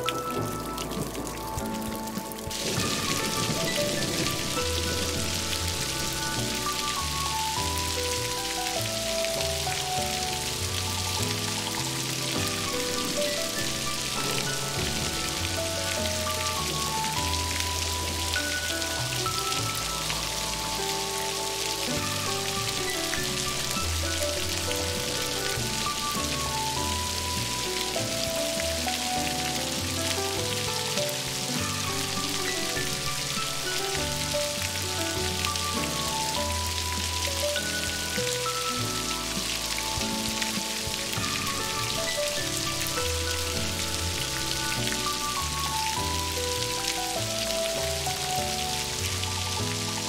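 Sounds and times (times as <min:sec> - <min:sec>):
heavy rain falling: 0:00.0 - 0:50.0
slow instrumental music: 0:00.0 - 0:50.0.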